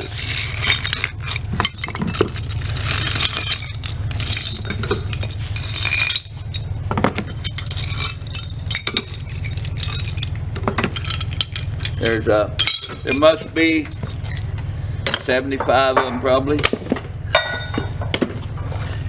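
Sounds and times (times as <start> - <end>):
low hum: 0.0 - 19.0
metal anchors clinking: 0.0 - 19.0.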